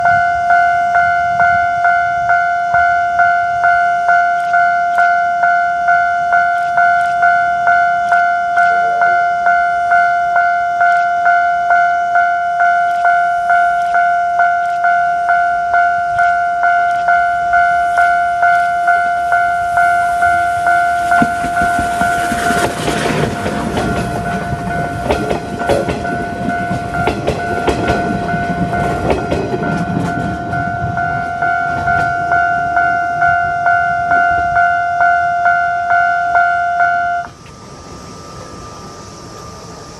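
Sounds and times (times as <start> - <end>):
level crossing alarm bell: 0.0 - 37.3.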